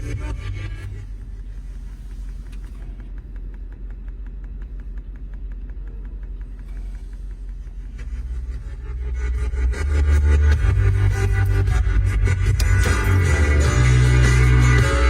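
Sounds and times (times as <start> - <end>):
car engine idling: 0.0 - 15.0
electrical ticking from speakers: 0.0 - 15.0.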